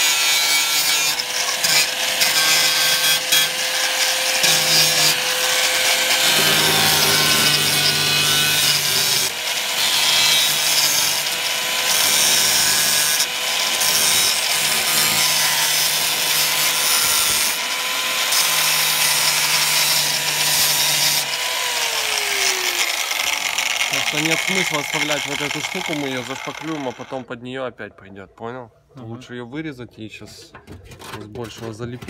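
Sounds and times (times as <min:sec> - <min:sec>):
grinding disc rasping on metal: 0:00.0 - 0:27.1.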